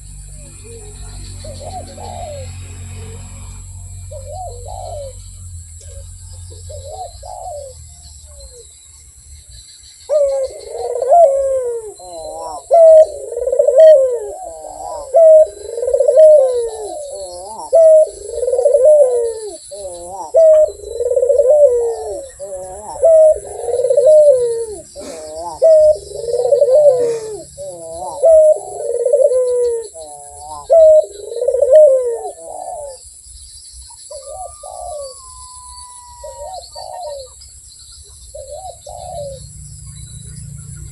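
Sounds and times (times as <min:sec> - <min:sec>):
dove cooing: 0:00.0 - 0:08.7, 0:10.1 - 0:33.2, 0:34.0 - 0:37.4, 0:38.0 - 0:40.9
small birds chirping: 0:00.0 - 0:40.9.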